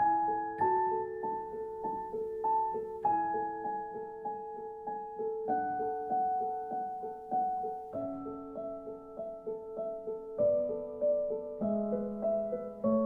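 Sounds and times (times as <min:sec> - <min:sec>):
soft piano melody: 0:00.0 - 0:13.0.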